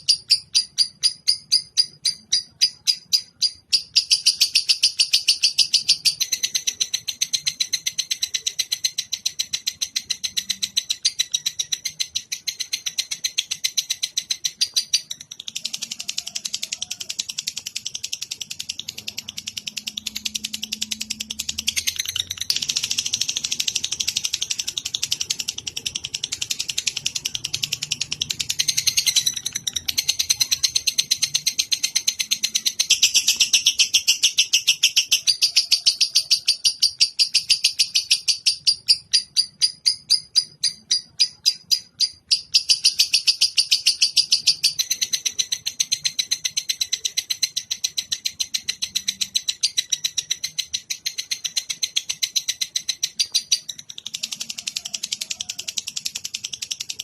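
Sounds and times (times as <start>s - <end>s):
songbird high-pitched trill: 0.0s - 57.0s.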